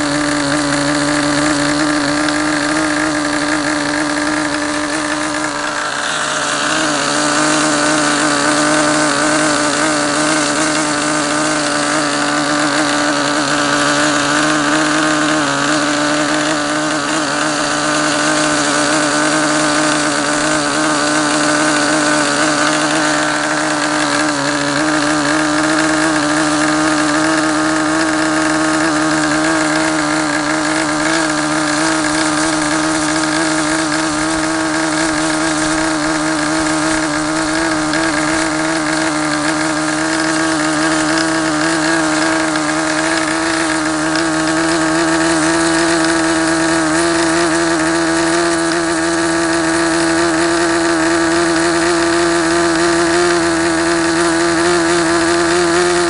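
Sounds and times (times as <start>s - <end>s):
model engine running at high speed: 0.0s - 56.0s.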